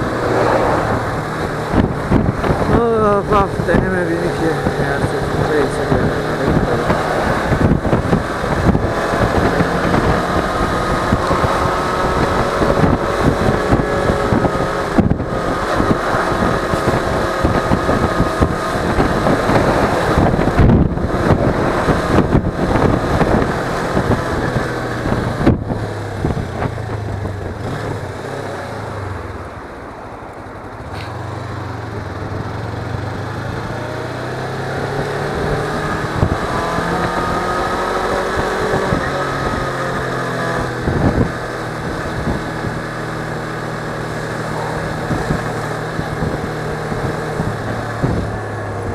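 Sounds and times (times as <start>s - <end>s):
motorcycle engine: 0.0s - 48.9s.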